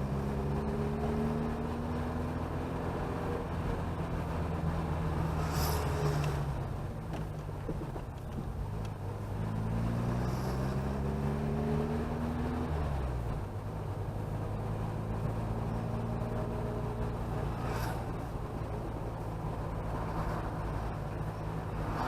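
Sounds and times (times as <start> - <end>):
car engine accelerating: 0.0 - 22.0
road noise: 0.0 - 22.0.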